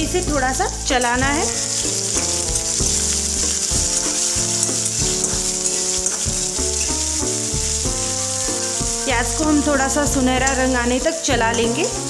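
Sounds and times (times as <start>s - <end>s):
held low notes: 0.0s - 12.0s
onions sizzling in hot oil: 0.0s - 12.0s
spatula stirring: 0.4s - 10.7s.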